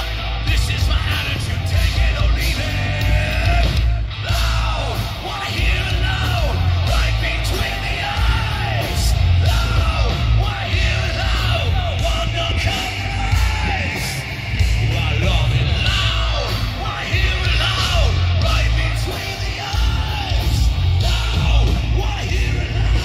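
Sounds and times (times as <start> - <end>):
live rock band playing: 0.0 - 23.0
singer yelling vocals: 0.0 - 23.0.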